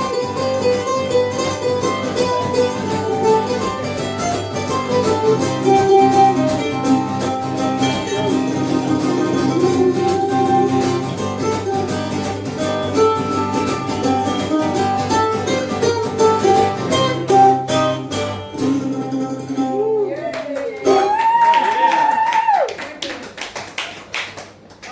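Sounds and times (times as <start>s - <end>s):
plucked guitar: 0.0s - 21.2s
sustained melody notes: 0.1s - 20.2s.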